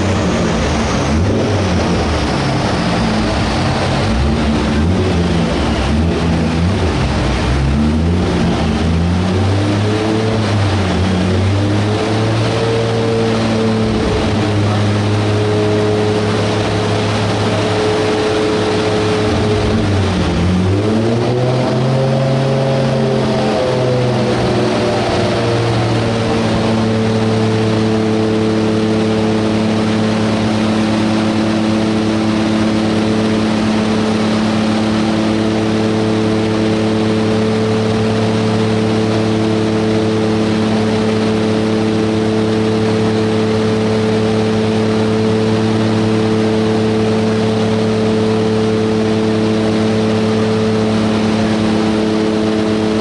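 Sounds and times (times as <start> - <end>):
car engine running: 0.0 - 53.0
large cooling fan rushing: 0.0 - 53.0.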